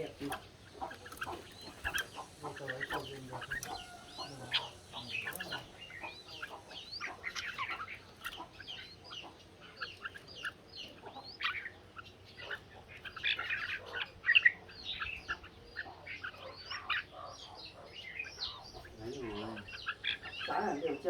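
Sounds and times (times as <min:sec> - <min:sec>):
birds singing whistled phrases: 0:00.0 - 0:21.0.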